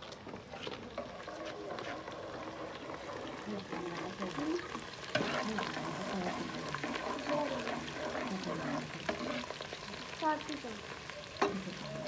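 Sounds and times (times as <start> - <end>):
ladle stirring in pot: 0.0 - 10.2
onions sizzling in oil: 0.0 - 12.0.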